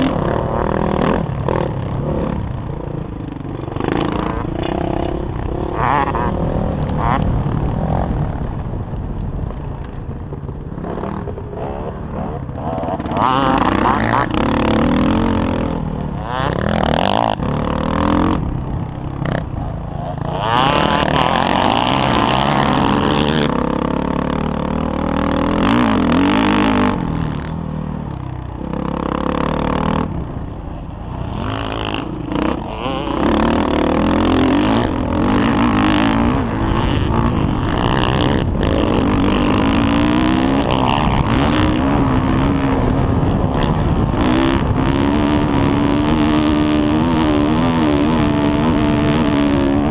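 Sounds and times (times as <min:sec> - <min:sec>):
dirt bike engine revving: 0:00.0 - 0:08.9, 0:10.3 - 0:49.9.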